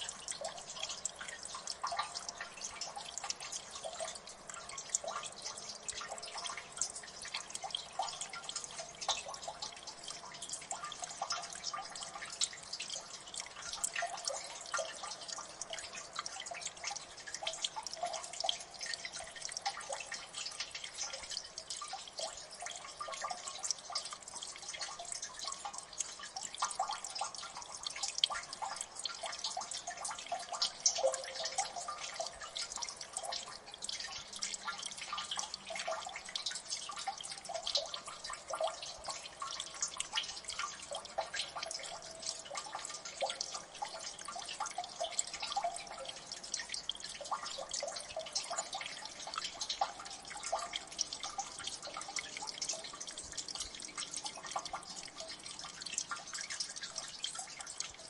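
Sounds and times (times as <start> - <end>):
water dripping into water: 0.0 - 58.0.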